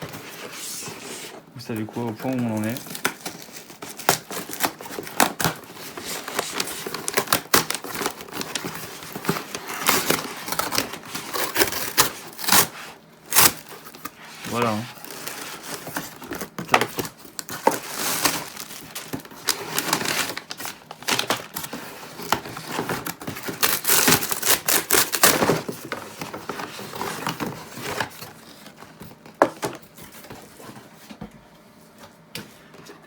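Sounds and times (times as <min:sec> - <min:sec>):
packaging crinkling and tearing: 0:02.0 - 0:28.8.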